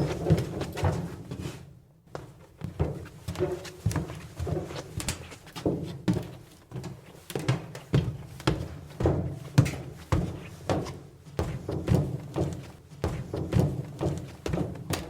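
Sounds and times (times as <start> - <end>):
footsteps on metal bleachers: 0.0 - 15.0.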